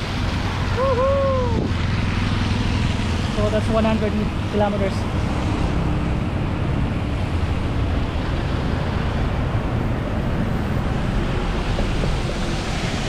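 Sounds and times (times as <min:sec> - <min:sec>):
tyre and road noise: 0:00.0 - 0:13.0
wind rushing on microphone: 0:00.0 - 0:13.0.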